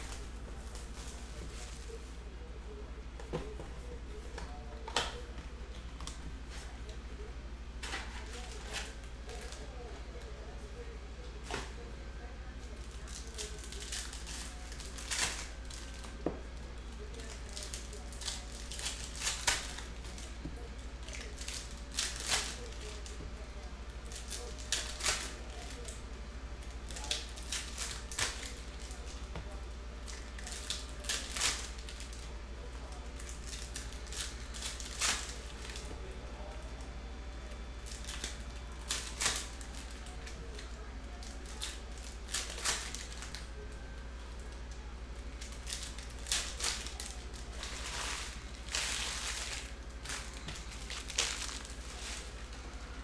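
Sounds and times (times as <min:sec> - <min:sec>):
wrappers crinkling and tearing: 0:00.0 - 0:02.1, 0:07.8 - 0:11.8, 0:12.6 - 0:36.9, 0:37.5 - 0:53.0
steady low hum: 0:00.0 - 0:53.0.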